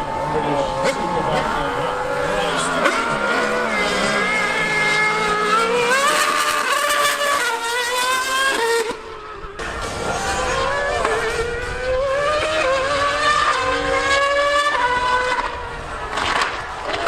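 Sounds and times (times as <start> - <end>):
racing engine accelerating: 0.0 - 17.0.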